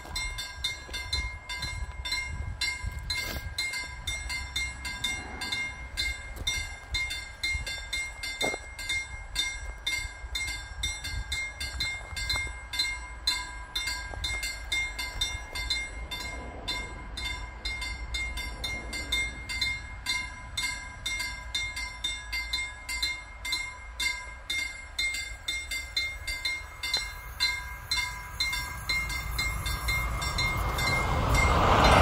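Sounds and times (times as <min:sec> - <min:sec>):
approaching train rumble: 0:00.0 - 0:32.0
level crossing bells ringing: 0:00.0 - 0:32.0.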